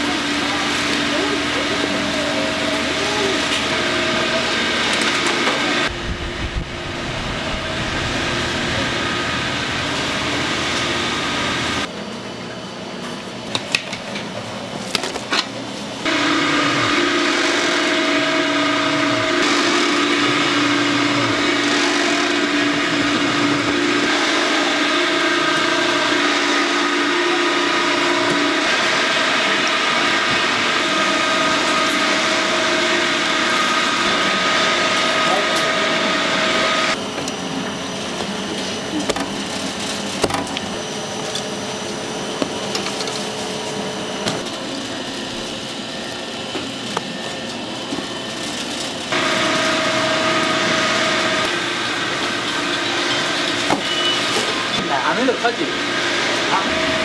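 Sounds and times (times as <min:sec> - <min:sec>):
machinery mechanical hum: 0:00.0 - 0:57.0.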